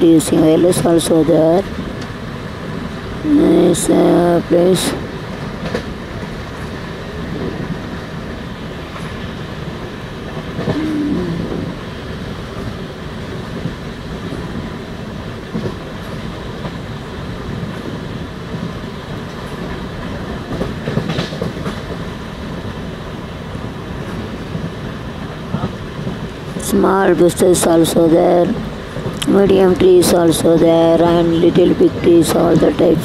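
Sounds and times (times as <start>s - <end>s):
rushing air: 0.0s - 27.6s
rail clicks: 0.0s - 33.0s
train wheels rumbling: 0.0s - 33.0s.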